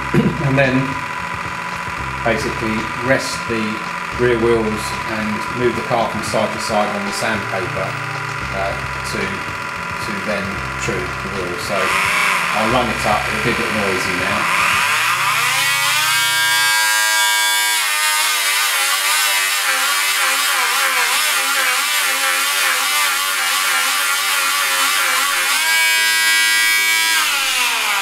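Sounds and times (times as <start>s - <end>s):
small electric motor whining: 0.0s - 28.0s
tyres grinding on abrasive paper: 0.0s - 28.0s.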